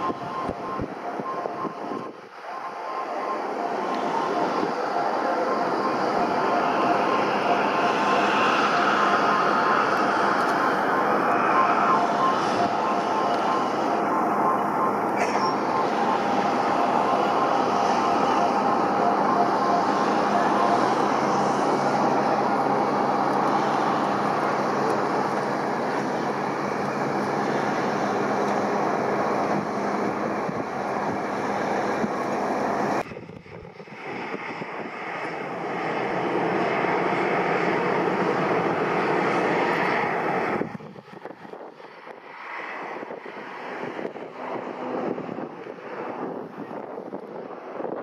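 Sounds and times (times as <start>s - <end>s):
jet engine rush and whine: 0.0s - 48.0s.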